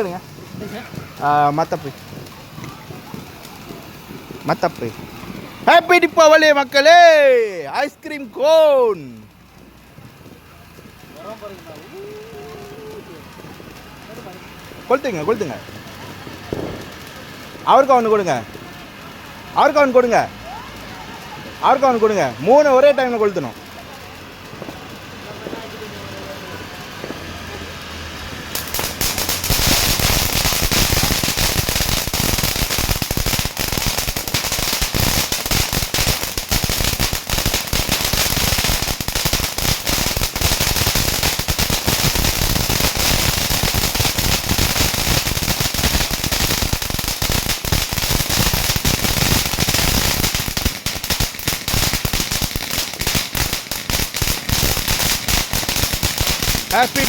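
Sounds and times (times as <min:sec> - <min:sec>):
firecrackers banging and crackling: 0:00.0 - 0:57.0.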